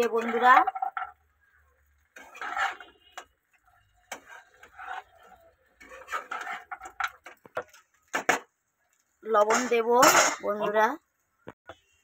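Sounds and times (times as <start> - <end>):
metal spatula scraping a pan: 0.0 - 8.4, 9.4 - 10.8.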